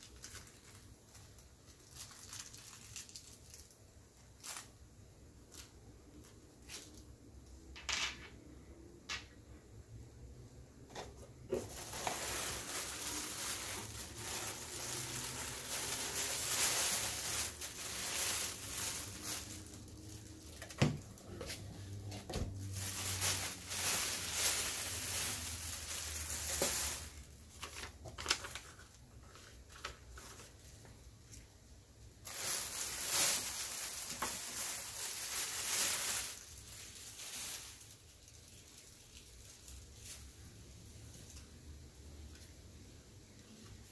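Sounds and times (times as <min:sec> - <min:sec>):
plastic bag rustling and crinkling: 0:00.0 - 0:07.8, 0:10.7 - 0:41.6.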